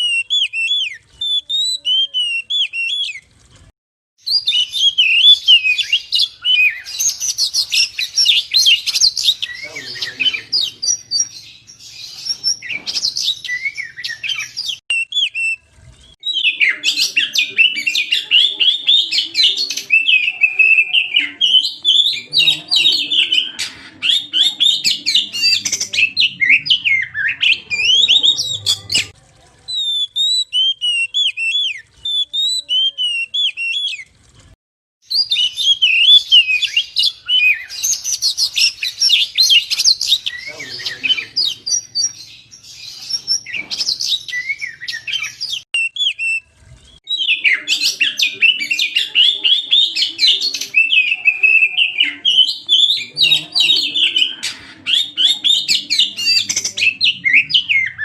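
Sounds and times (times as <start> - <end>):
bird singing chirps and whistles: 0.0 - 3.3, 4.2 - 29.1, 29.7 - 34.1, 35.1 - 58.0.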